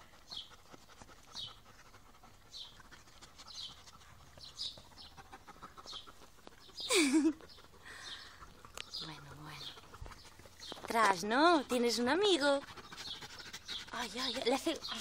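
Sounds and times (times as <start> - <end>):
dogs panting: 0.0 - 15.0.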